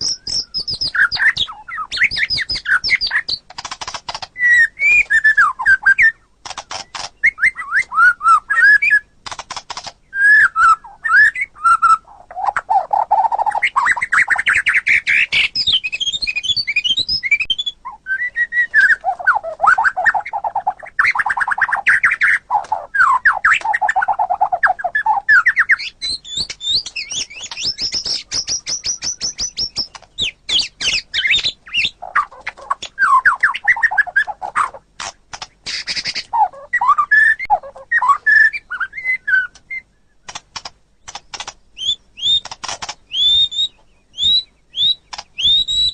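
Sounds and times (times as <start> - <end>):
songbird singing trills and whistles: 0.0 - 45.9.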